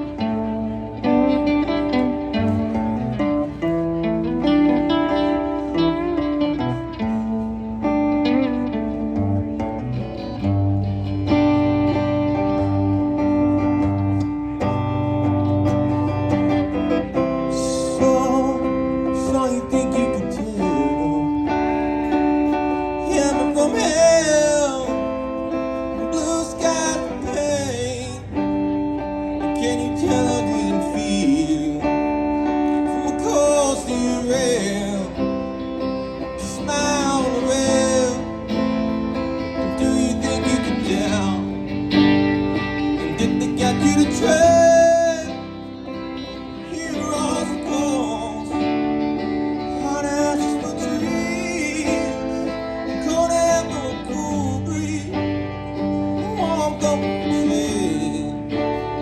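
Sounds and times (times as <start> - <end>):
strummed guitar: 0.0 - 59.0
person singing: 11.4 - 59.0.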